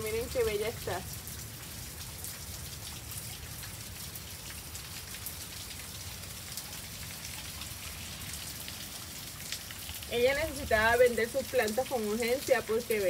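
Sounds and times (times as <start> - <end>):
raindrops ticking close by: 0.0 - 13.0
steady rain falling: 0.0 - 13.0.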